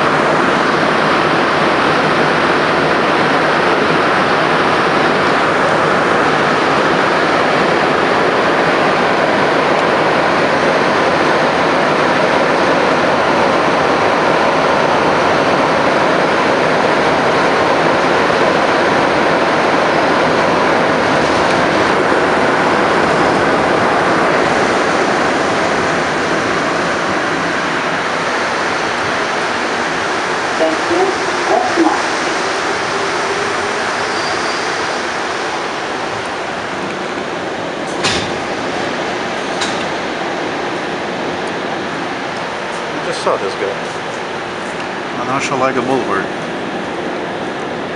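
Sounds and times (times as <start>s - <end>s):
subway car rushing through tunnel: 0.0s - 47.9s.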